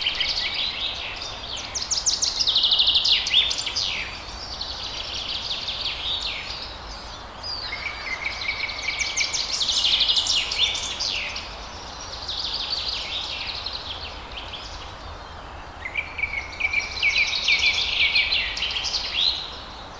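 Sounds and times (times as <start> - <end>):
birds singing: 0.0 - 19.9.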